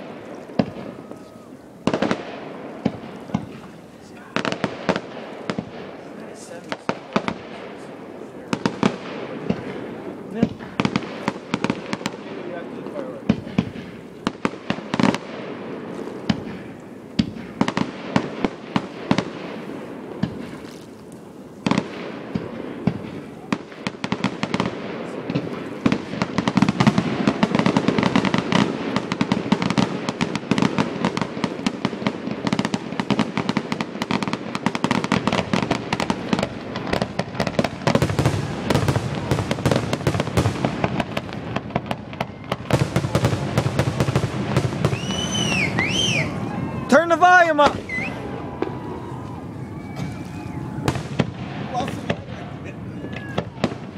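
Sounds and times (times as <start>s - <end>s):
fireworks crackling: 0.0s - 53.9s
fireworks exploding: 0.0s - 53.9s.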